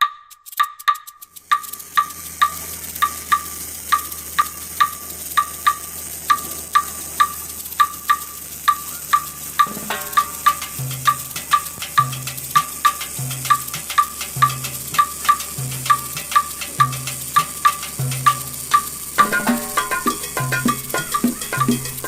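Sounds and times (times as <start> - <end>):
wood-block click beat music: 0.0 - 22.0
welding arc crackling hiss: 0.3 - 22.0.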